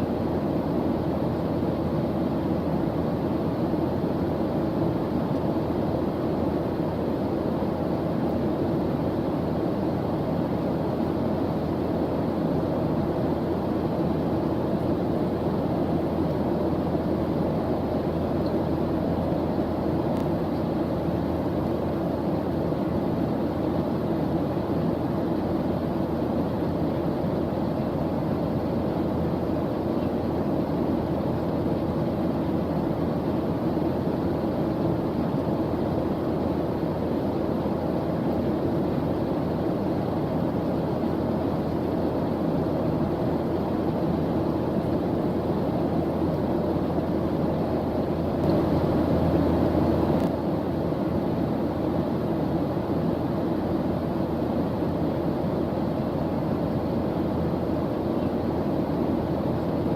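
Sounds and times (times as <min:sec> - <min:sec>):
white noise rushing hiss: 0:00.0 - 0:59.9.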